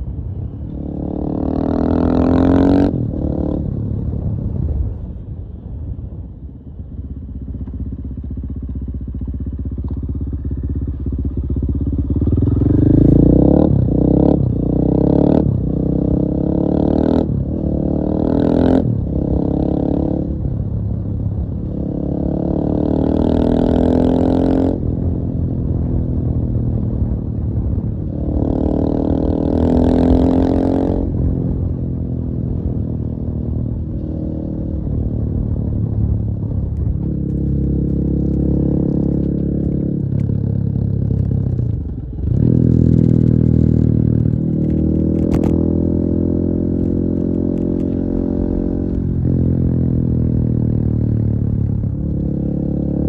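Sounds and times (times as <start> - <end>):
motorcycle engine revving: 0.7 - 4.2, 8.0 - 53.0.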